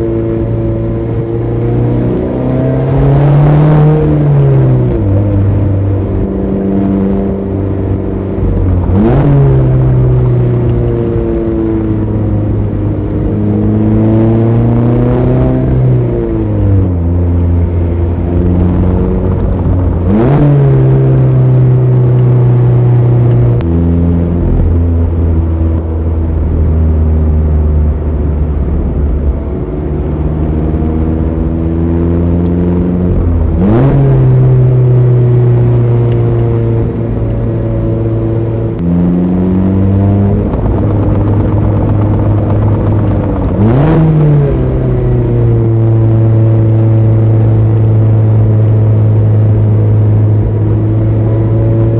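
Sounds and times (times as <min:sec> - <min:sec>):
engine rev blips on downshifts: 0:00.0 - 0:12.2, 0:13.6 - 0:24.2, 0:31.2 - 0:51.9
car engine driven hard: 0:00.0 - 0:51.9.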